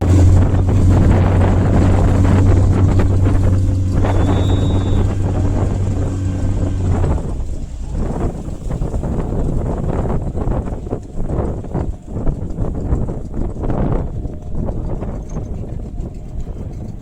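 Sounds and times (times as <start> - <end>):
motorboat engine humming: 0.0 - 17.0
wind buffeting microphone: 0.0 - 17.0.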